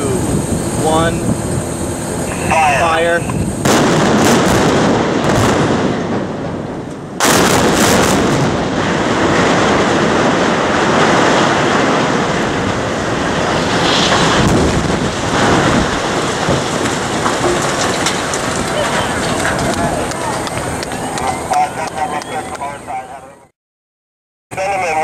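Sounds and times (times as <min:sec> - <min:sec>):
heavy rumble of collapsing buildings: 0:00.0 - 0:23.5
demolition explosions: 0:00.2 - 0:23.0.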